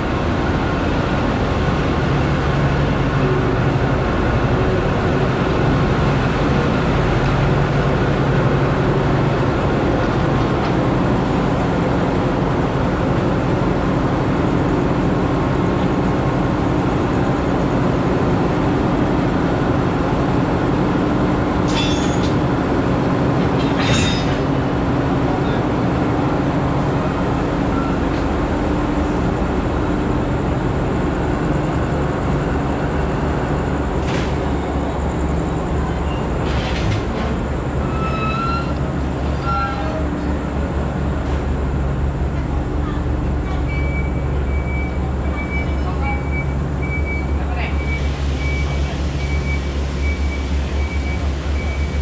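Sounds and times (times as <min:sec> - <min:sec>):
diesel locomotives idling: 0:00.0 - 0:52.0.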